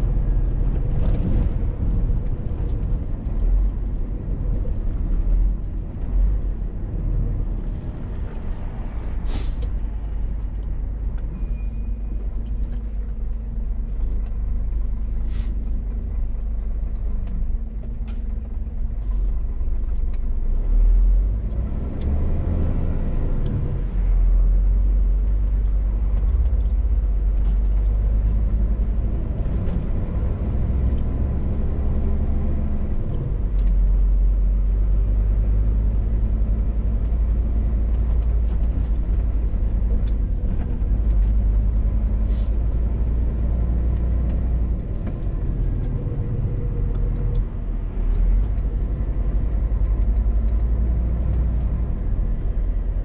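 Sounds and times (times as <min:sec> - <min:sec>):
diesel lorry engine rumble: 0:00.0 - 0:53.0
road noise: 0:00.0 - 0:53.0.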